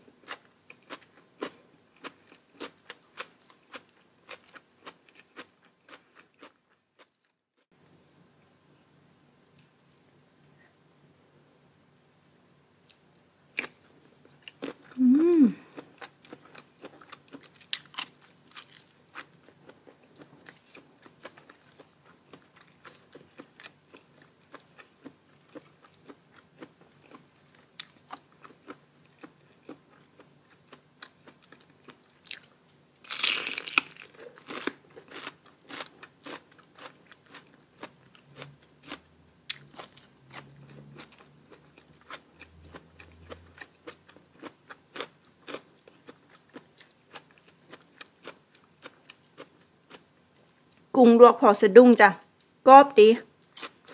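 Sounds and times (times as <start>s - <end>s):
person crunching and chewing: 0.2s - 7.3s, 12.8s - 50.0s, 53.5s - 53.9s.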